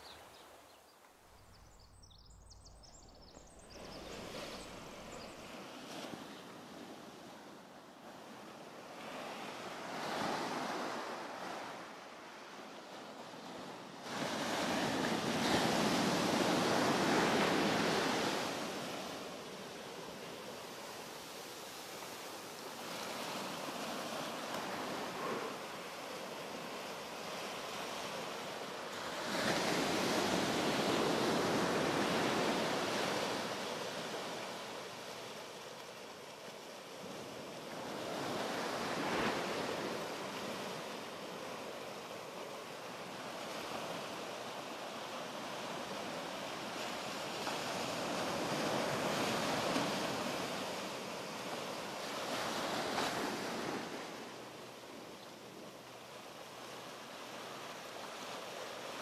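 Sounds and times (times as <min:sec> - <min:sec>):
small waves washing on beach: 0:03.6 - 0:59.0.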